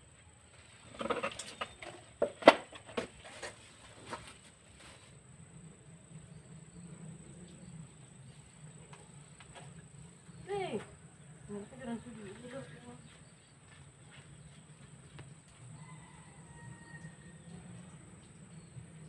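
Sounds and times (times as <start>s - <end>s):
steady low hum: 3.6s - 19.0s.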